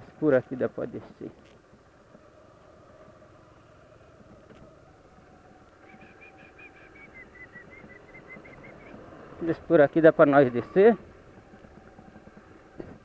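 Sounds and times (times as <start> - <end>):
motorcycle over cobblestones: 0.0 - 13.0.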